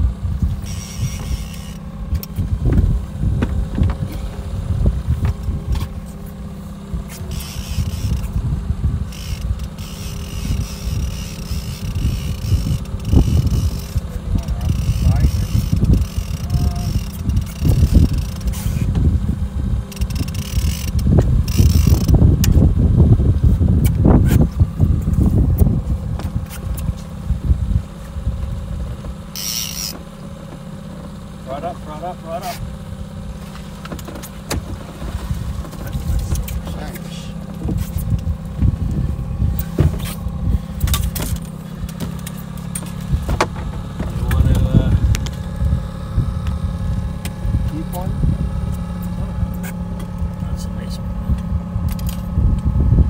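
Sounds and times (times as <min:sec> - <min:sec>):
wind buffeting microphone: 0:00.0 - 0:29.3, 0:32.6 - 0:53.0
outboard motor running: 0:00.0 - 0:53.0
knocks and clicks of gear: 0:00.4 - 0:22.7, 0:23.3 - 0:32.7, 0:33.3 - 0:52.9.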